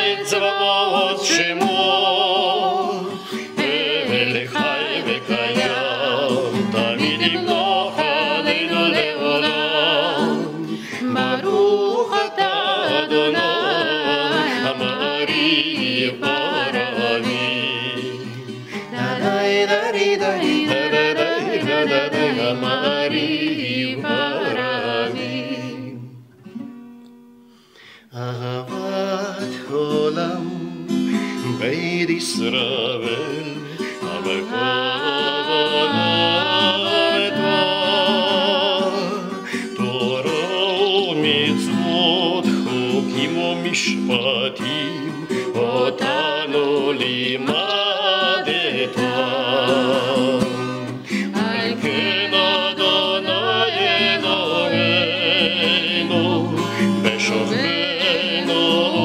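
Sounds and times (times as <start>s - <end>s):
woman and man singing: 0.0s - 26.2s, 28.1s - 59.0s
strummed acoustic guitar: 0.0s - 59.0s.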